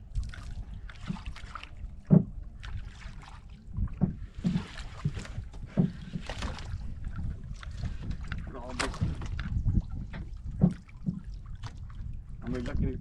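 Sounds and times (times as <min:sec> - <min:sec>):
water splashing: 0:00.0 - 0:13.0
wind on microphone: 0:00.0 - 0:13.0
water knocking against boat hull: 0:01.0 - 0:12.8.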